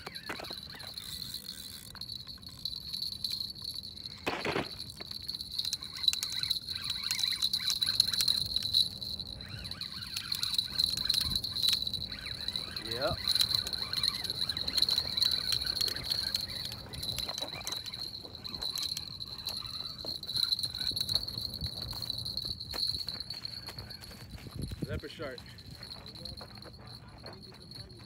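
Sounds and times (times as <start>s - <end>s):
high-pitched insect trill: 0.0s - 28.0s.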